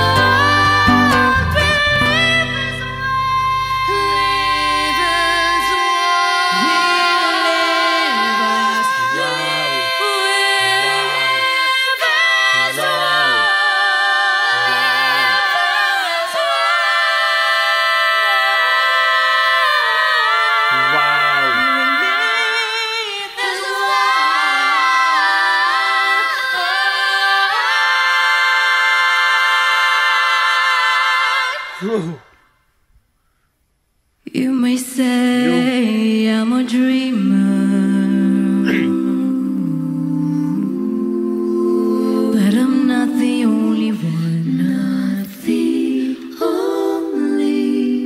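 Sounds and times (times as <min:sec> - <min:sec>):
women singing in harmony: 0:00.0 - 0:31.8, 0:34.3 - 0:48.0.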